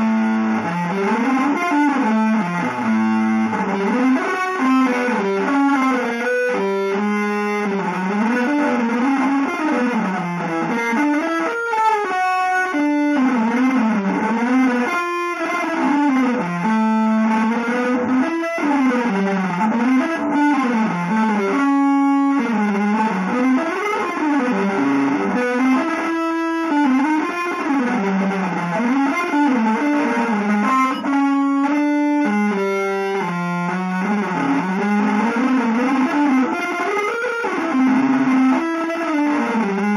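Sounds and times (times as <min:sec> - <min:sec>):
electric guitar improvising: 0:00.0 - 0:39.9.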